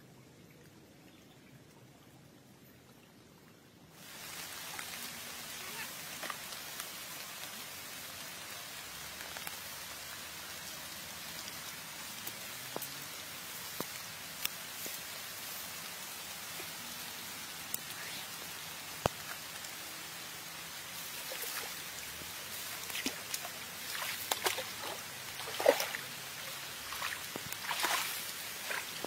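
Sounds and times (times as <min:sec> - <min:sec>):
rain on foliage: 0:04.0 - 0:29.0.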